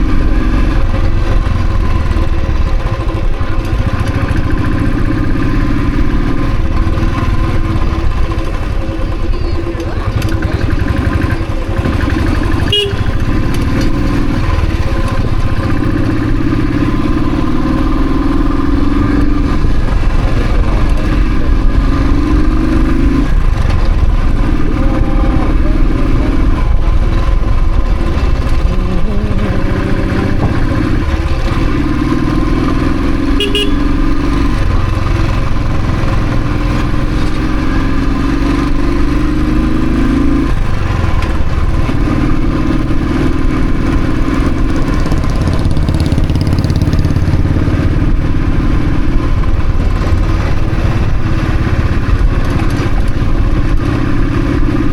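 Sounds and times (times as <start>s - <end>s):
motorcycle engine accelerating: 0.0s - 54.9s
wind and road rumble: 0.0s - 54.9s.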